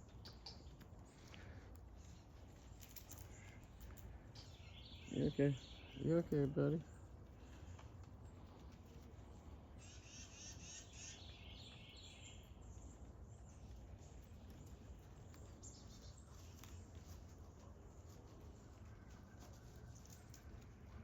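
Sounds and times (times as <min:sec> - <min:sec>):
bird chirping: 0:00.0 - 0:17.2.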